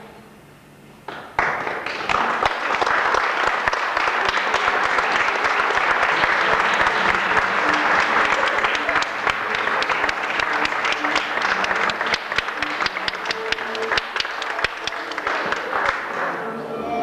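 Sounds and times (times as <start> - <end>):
audience applauding: 1.2 - 16.4.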